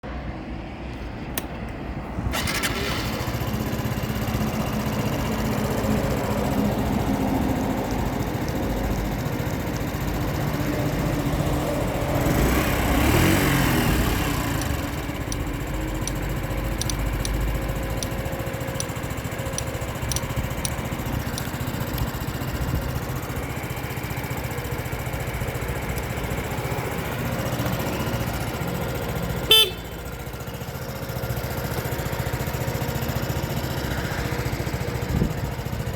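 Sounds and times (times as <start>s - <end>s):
small motorcycle engine running: 2.4s - 35.9s.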